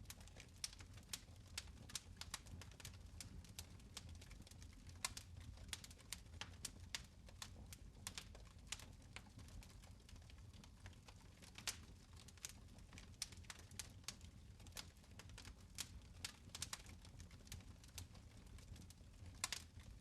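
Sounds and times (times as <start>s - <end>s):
fire crackling in a fireplace: 0.0s - 20.0s.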